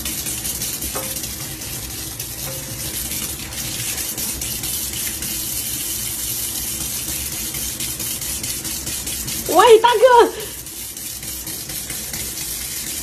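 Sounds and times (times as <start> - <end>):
faucet water splashing into sink: 0.0 - 13.0.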